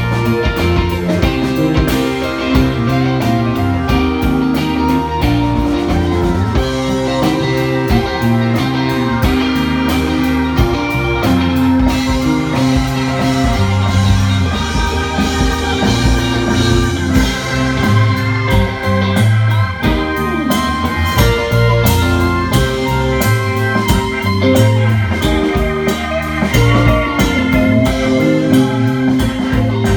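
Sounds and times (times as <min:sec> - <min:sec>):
bass guitar: 0:00.0 - 0:29.9
drum kit beat: 0:00.0 - 0:29.9
electric guitar lines: 0:00.0 - 0:29.9.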